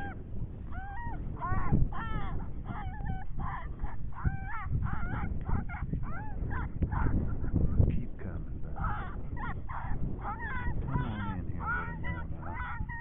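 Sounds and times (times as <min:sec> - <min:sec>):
coyote yips and whimpers: 0:00.0 - 0:07.9, 0:08.6 - 0:13.0.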